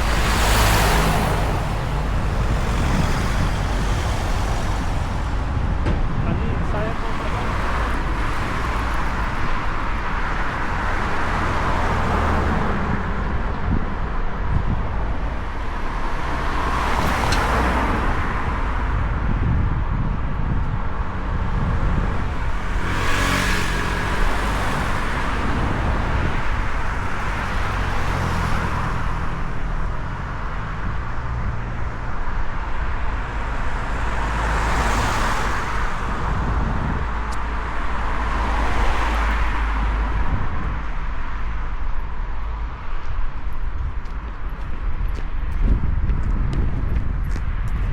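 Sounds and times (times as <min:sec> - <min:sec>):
cars passing: 0:00.0 - 0:47.9
low traffic rumble: 0:00.0 - 0:47.9.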